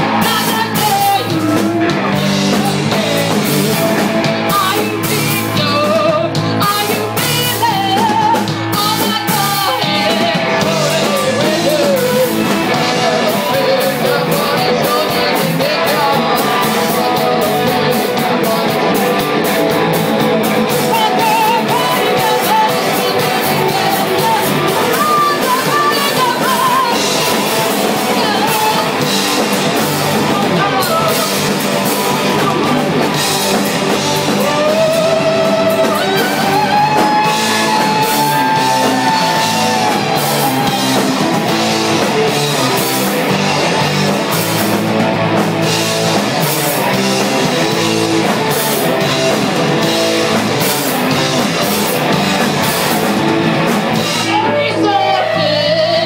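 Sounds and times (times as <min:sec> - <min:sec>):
person singing: 0:00.0 - 0:44.7, 0:54.0 - 0:56.0
drum kit: 0:00.0 - 0:56.0
electric guitar: 0:00.0 - 0:56.0.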